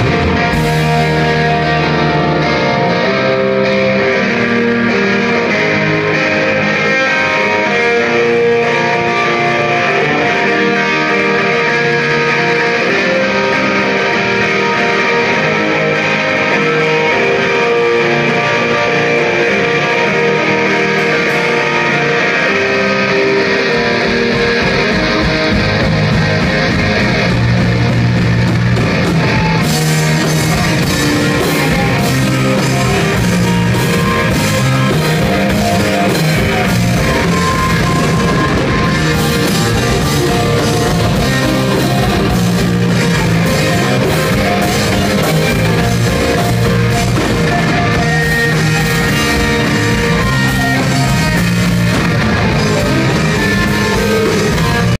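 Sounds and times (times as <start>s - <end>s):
electric guitar: 0.0s - 55.0s
live rock band playing: 0.0s - 55.0s.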